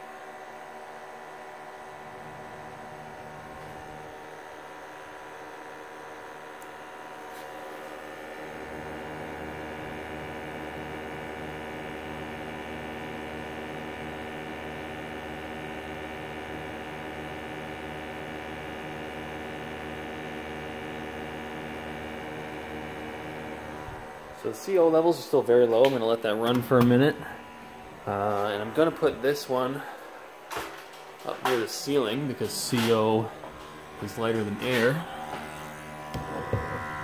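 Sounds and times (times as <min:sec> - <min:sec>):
blower fan hum: 0:00.0 - 0:37.0
sample pump hum: 0:00.8 - 0:37.0.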